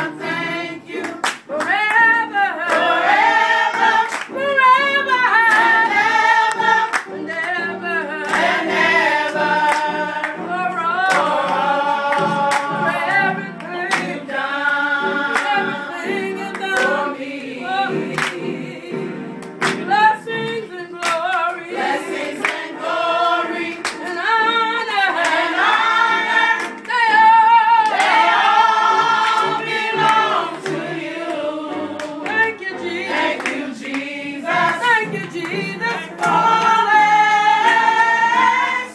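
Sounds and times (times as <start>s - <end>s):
women singing gospel: 0.0s - 38.9s.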